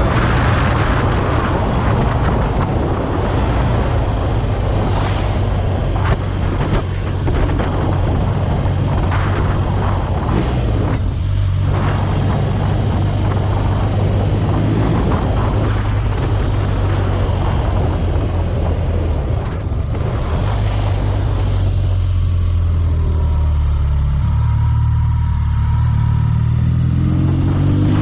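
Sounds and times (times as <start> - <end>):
wind noise on microphone: 0.0 - 23.0, 24.1 - 28.0
motorcycle engine running: 0.0 - 28.0.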